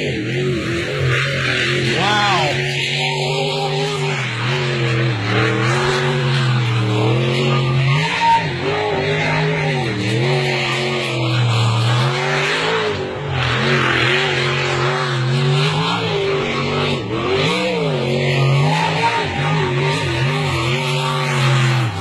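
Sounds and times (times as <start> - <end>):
boat engine revving: 0.0 - 22.0.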